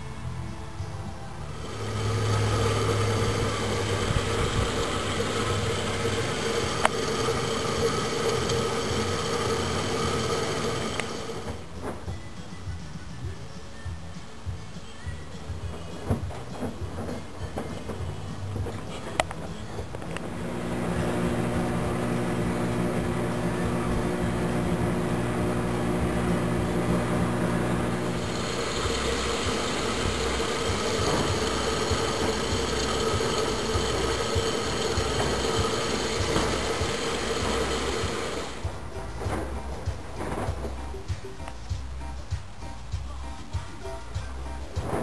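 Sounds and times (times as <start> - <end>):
washing machine hum: 1.4 - 12.2, 15.4 - 42.4, 44.1 - 45.0.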